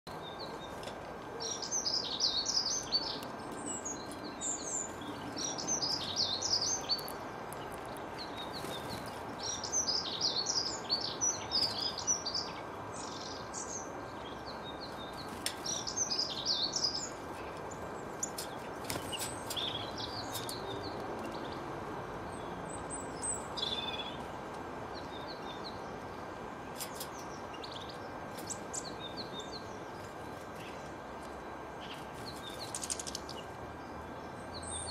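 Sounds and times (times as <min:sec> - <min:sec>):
low background hum: 0:00.1 - 0:34.9
songbirds twittering: 0:00.1 - 0:34.9.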